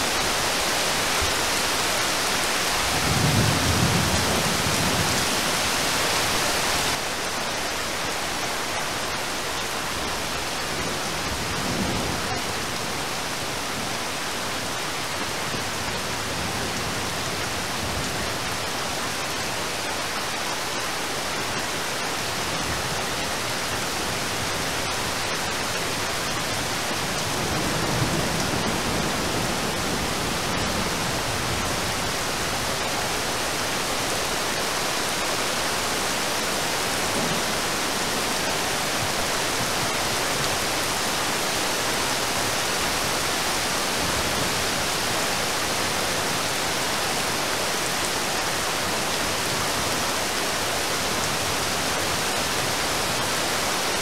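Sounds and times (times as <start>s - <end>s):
heavy rain on river: 0.0s - 54.0s.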